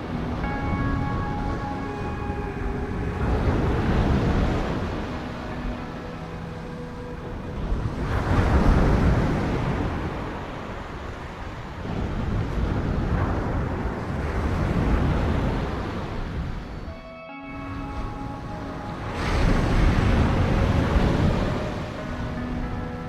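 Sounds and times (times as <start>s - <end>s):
waves breaking on shore: 0.0s - 16.9s, 17.6s - 23.0s.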